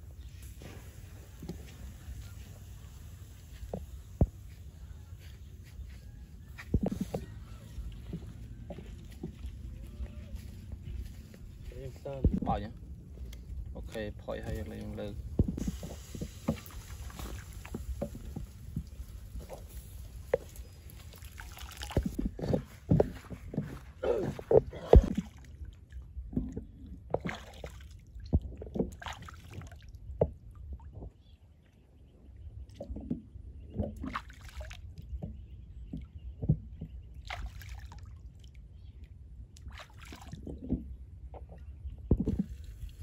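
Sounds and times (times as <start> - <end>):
water sloshing and splashing: 0.0 - 31.8, 32.5 - 43.0.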